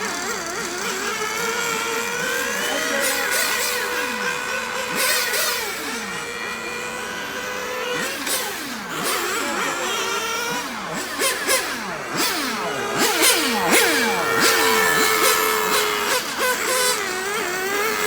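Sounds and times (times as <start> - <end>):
high-pitched model car engines buzzing: 0.0 - 18.0.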